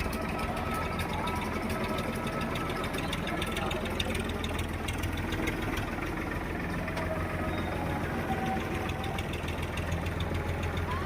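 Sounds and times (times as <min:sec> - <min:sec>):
tractor engine knocking: 0:00.0 - 0:11.0.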